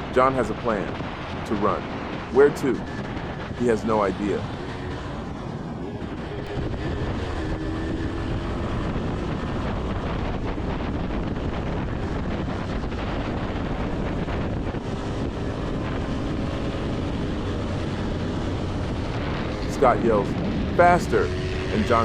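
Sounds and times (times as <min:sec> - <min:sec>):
wind buffeting microphone: 0:00.0 - 0:22.0
motorcycle engine running: 0:00.7 - 0:22.0.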